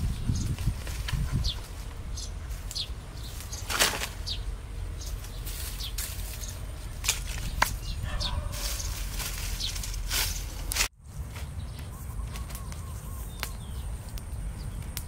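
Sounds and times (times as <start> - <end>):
dry sticks rustling and crackling: 0.2 - 15.0.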